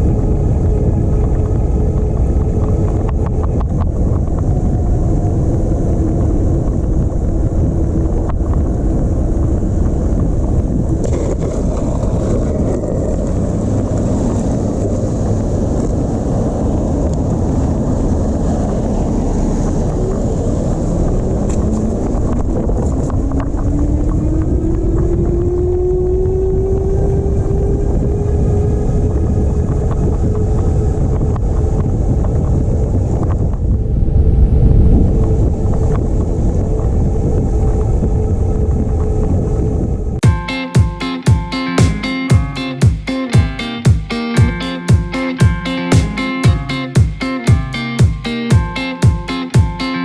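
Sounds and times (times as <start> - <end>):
electric bike riding noise: 0.0 - 40.2
wind buffeting microphone: 0.0 - 40.2.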